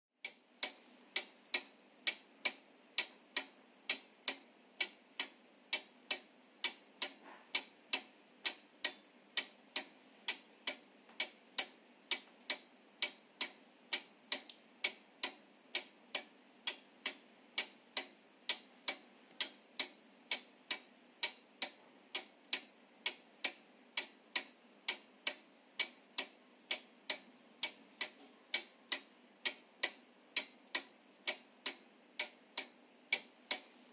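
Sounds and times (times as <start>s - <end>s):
clock ticking: 0.2s - 33.8s.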